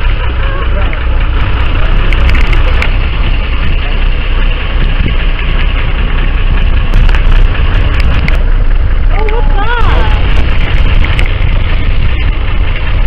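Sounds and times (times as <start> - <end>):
boat engine idling: 0.0 - 13.0
wind and water hiss: 0.0 - 13.0.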